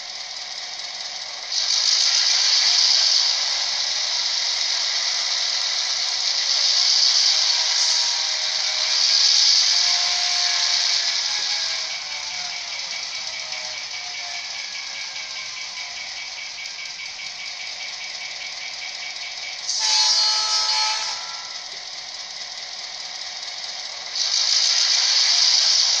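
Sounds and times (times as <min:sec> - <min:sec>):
model train diesel engine sound: 0:00.0 - 0:26.0.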